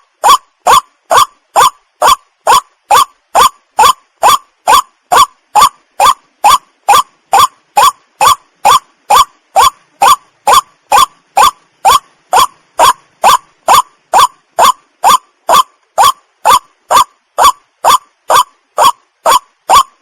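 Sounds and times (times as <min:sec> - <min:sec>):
waterhen calling: 0:00.0 - 0:19.9.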